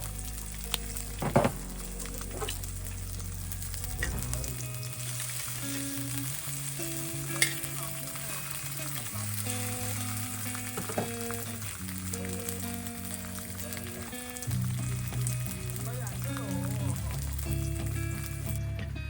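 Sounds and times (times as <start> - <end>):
meat sizzling in a pan: 0.0 - 18.7
soft background music: 0.0 - 19.0.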